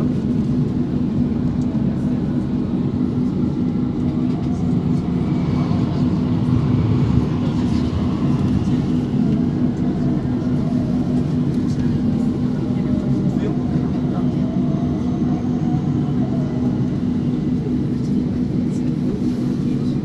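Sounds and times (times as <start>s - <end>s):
tram motor hum: 0.0s - 20.0s
tram passing: 0.0s - 20.0s
wheels rumbling on rails: 0.0s - 20.0s.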